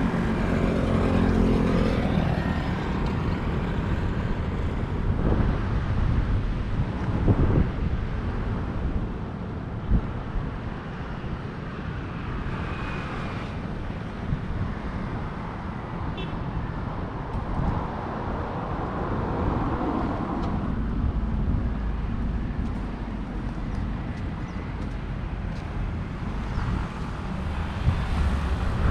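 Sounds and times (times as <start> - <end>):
road traffic hum: 0.0 - 28.9
wind buffeting microphone: 0.0 - 28.9.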